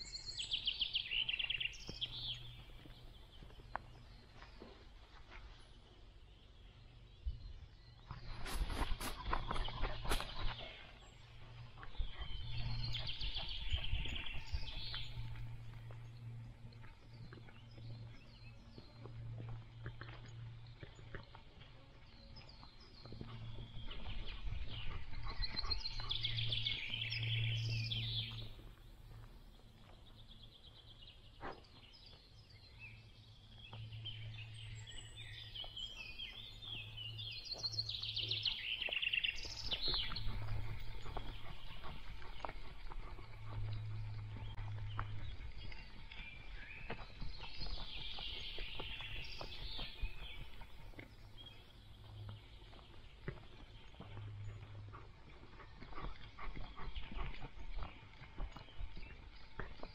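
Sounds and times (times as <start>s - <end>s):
songbirds singing and chirping: 0.0s - 59.9s
steady low rumble: 9.1s - 31.2s, 32.6s - 59.9s.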